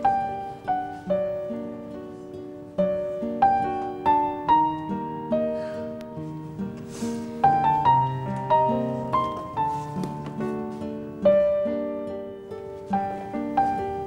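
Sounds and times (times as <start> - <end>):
soft instrumental music: 0.0 - 14.0.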